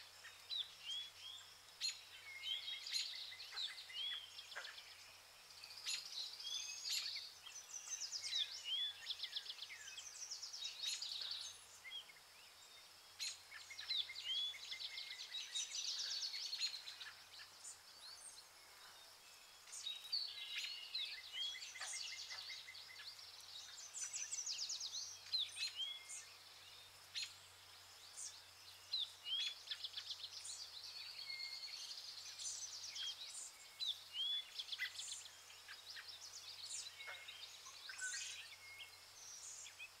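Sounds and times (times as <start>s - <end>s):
birds chirping and trilling: 0.0s - 40.0s.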